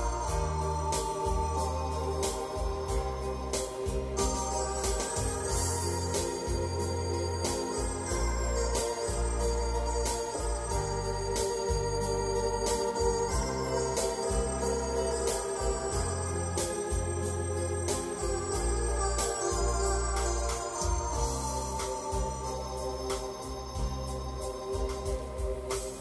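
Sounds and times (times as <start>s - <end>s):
bass line: 0.0s - 25.8s
organ playing chords: 0.0s - 26.0s
steady drum beat: 0.0s - 26.0s.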